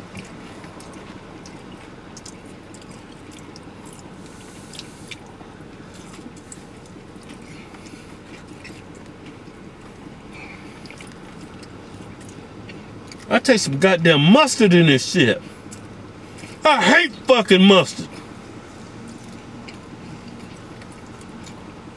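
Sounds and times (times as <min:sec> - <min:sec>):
person chewing fried chicken: 0:00.0 - 0:13.3, 0:15.4 - 0:16.6, 0:18.1 - 0:21.9
low steady hum: 0:00.0 - 0:21.9.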